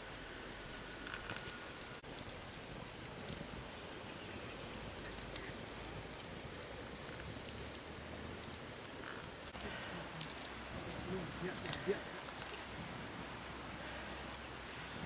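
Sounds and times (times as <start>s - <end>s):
fire embers crackling: 0.0s - 15.0s.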